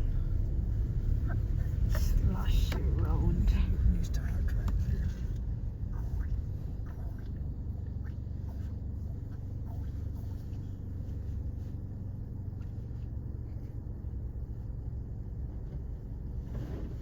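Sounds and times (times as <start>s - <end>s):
car driving on slushy road: 0.0s - 17.0s.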